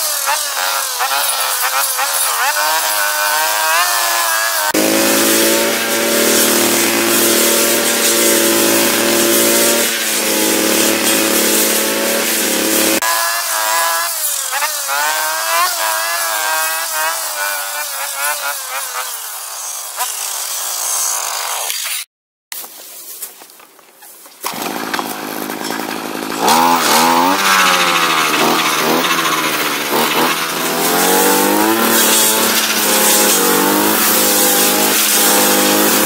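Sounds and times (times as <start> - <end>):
brushcutter engine revving: 0.0 - 21.7, 24.4 - 36.0.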